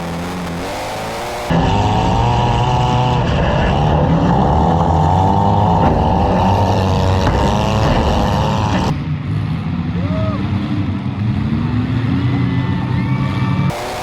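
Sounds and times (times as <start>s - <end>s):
car engines revving hard: 0.0s - 14.0s.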